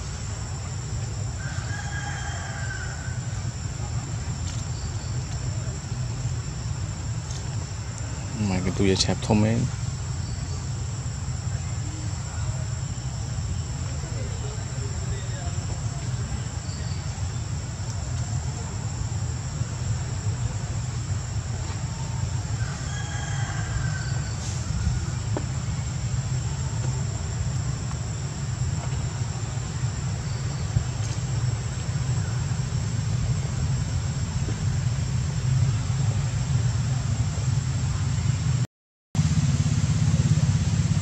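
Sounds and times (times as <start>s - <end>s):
faint chirps: 0.0s - 34.7s
high thin insect drone: 0.0s - 38.6s.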